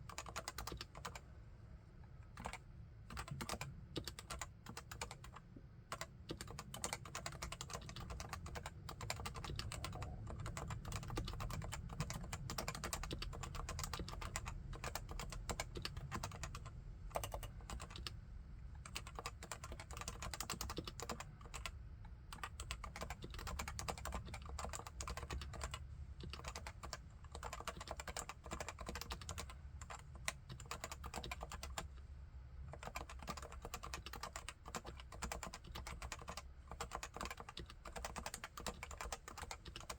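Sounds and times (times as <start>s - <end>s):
keyboard typing: 0.1s - 1.2s, 2.4s - 18.1s, 18.8s - 21.7s, 22.3s - 31.9s, 32.7s - 39.9s.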